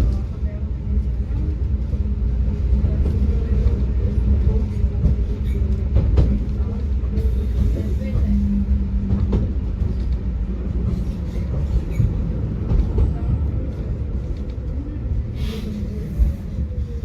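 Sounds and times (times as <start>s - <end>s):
tram rumbling on track: 0.0s - 17.0s.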